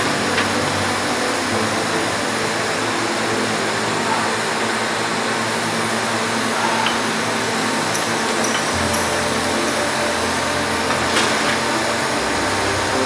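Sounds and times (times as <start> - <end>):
industrial machine humming: 0.0 - 13.0.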